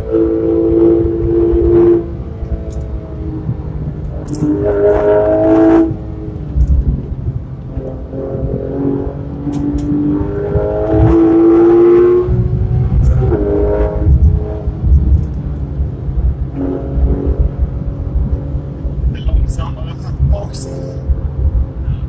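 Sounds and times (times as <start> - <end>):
car engine accelerating: 0.0 - 22.0
tyre and road rumble: 0.0 - 22.0.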